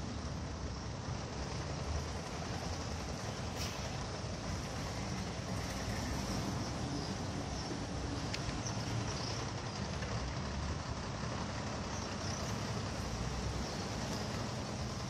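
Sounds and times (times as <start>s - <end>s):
diesel truck engine: 0.0s - 15.0s
low rumble of road traffic: 0.0s - 15.0s.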